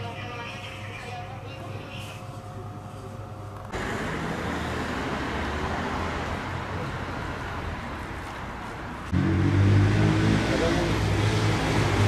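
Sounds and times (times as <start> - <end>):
road traffic noise: 1.9 - 12.0.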